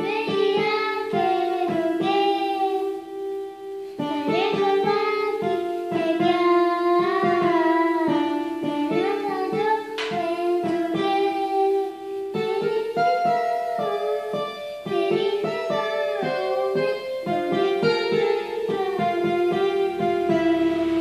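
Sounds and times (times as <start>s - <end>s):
electronic keyboard melody with beat: 0.0s - 21.0s.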